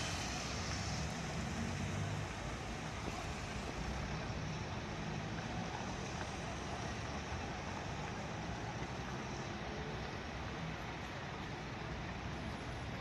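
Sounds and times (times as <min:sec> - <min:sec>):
street traffic noise: 0:00.0 - 0:13.0
vehicle engines rumbling: 0:00.0 - 0:13.0.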